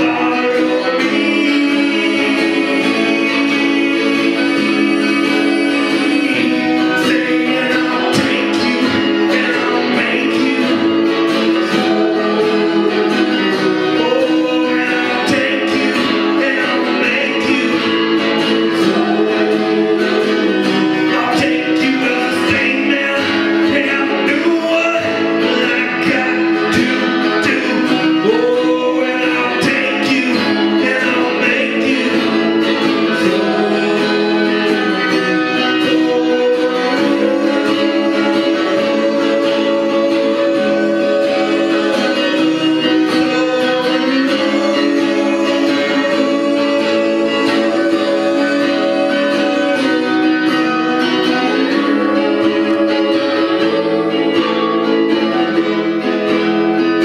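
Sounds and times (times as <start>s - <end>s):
man singing into microphone: 0.0s - 56.1s
strummed acoustic guitar: 0.0s - 57.0s.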